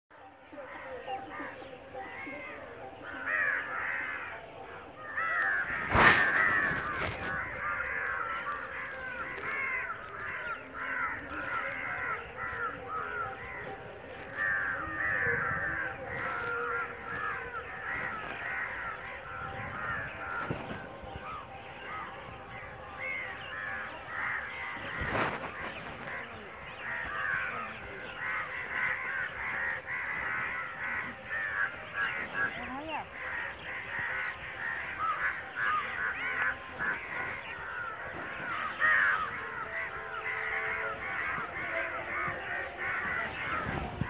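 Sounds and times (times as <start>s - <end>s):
flock of birds calling: 0.2s - 44.0s.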